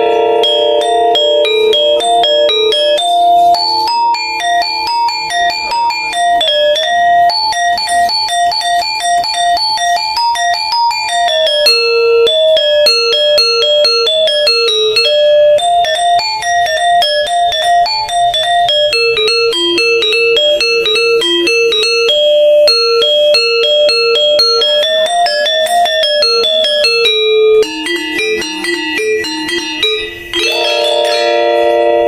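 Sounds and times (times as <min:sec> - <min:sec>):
metallophone playing fast notes: 0:00.0 - 0:32.0.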